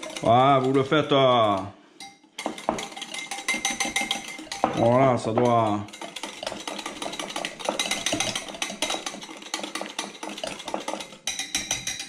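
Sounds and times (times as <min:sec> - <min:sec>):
spoon clinking against bowl: 0:00.0 - 0:12.0.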